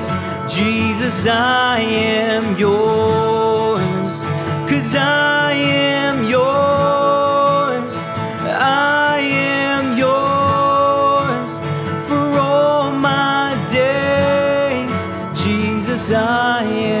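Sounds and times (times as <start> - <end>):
man singing: 0.0 - 17.0
strummed acoustic guitar: 0.0 - 17.0.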